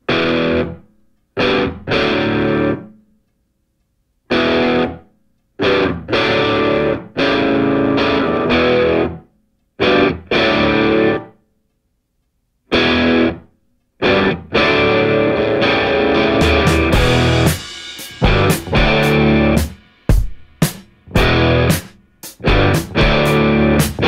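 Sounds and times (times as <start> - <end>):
distorted electric guitar chords: 0.0 - 0.8, 1.4 - 2.9, 4.3 - 5.0, 5.6 - 9.2, 9.8 - 11.3, 12.7 - 24.0.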